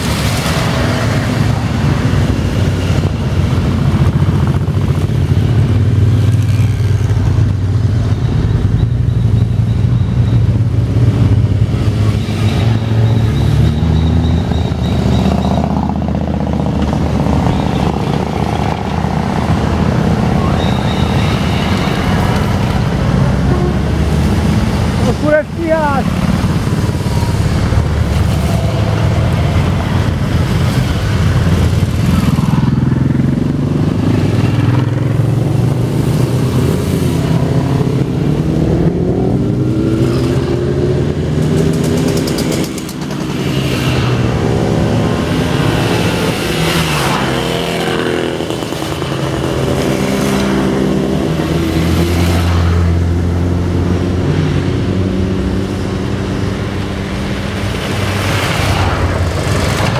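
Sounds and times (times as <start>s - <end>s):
motorcycles riding past: 0.0s - 59.9s.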